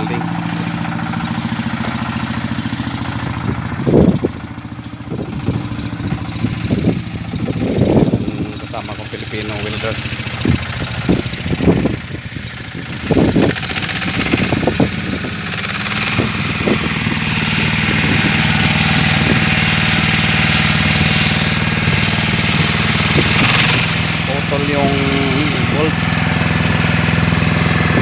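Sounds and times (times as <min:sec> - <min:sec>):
engine humming drone: 0:00.0 - 0:28.0.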